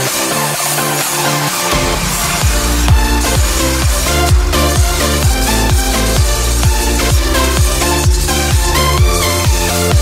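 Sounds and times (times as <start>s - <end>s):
electronic dance music: 0.0s - 10.0s
sustained synth chords: 1.6s - 10.0s
steady kick drum: 1.7s - 10.0s.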